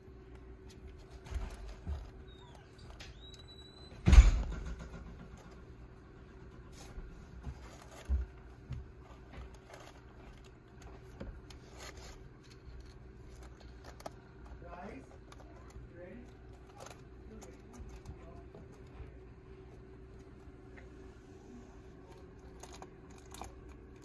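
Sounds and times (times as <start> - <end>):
faint steady hum: 0.0 - 24.0
kittens knocking and scraping: 0.3 - 20.9.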